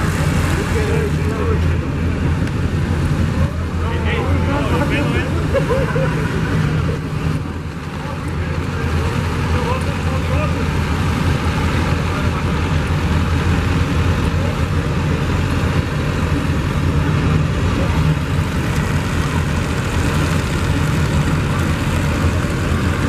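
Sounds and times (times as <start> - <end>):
diesel truck engine rumbling: 0.0 - 23.0.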